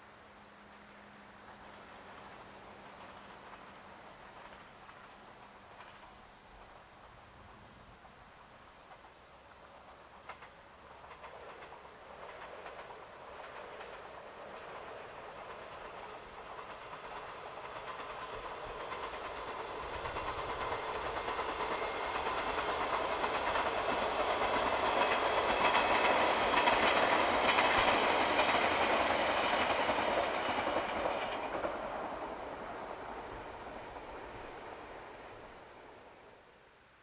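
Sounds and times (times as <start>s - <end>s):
electric train passing at speed: 0.0s - 37.0s.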